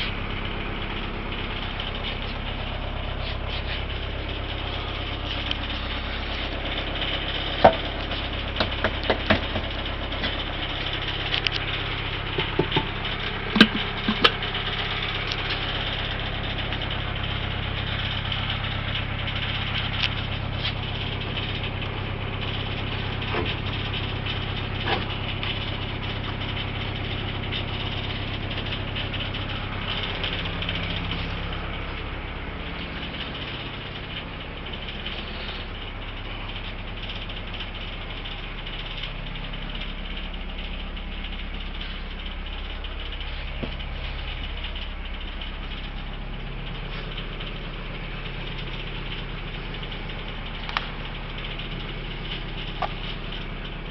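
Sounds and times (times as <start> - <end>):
boat engine idling: 0.0 - 53.9
sharp clicks and knocks: 0.8 - 53.9.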